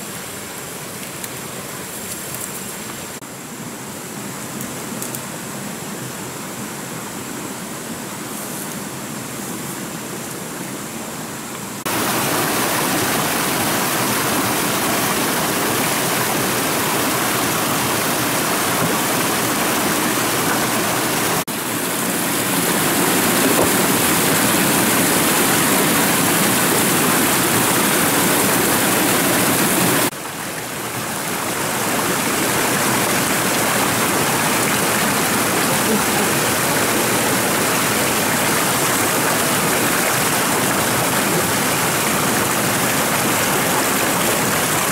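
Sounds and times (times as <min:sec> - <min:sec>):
stream and waterfall rushing: 0:00.0 - 0:44.9.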